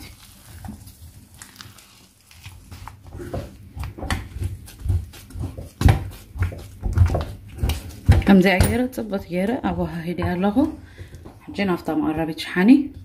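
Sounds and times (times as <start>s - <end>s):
wooden spoon stirring porridge in pot: 0.0s - 12.5s.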